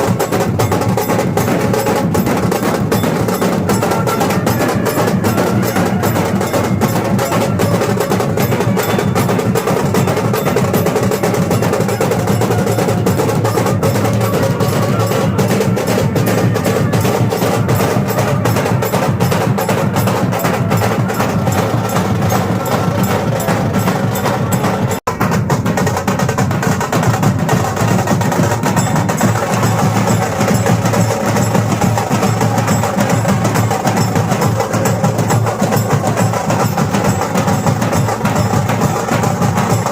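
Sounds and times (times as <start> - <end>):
loud percussion-heavy music: 0.0 - 39.9.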